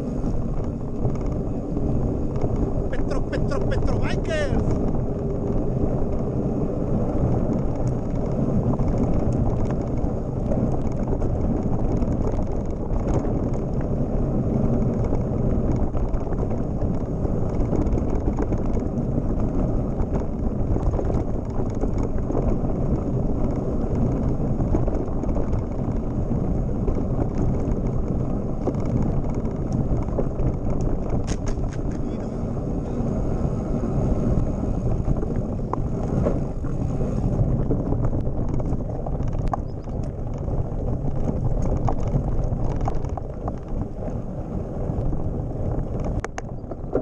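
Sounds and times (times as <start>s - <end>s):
bike clicks and rattles: 0.0s - 4.0s, 4.6s - 47.0s
bike tyres rumbling on gravel: 0.0s - 47.0s
wind on microphone: 0.0s - 47.0s.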